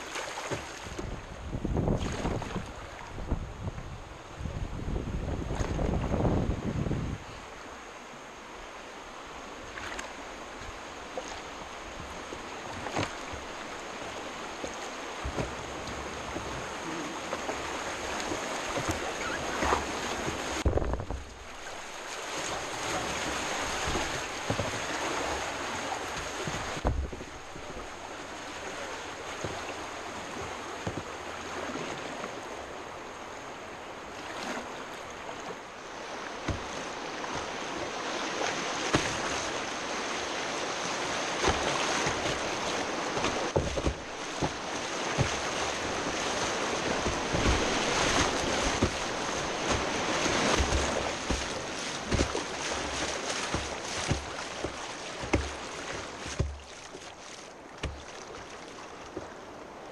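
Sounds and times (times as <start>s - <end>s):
rushing whitewater: 0.0s - 59.9s
water splashing against hull: 0.0s - 59.9s.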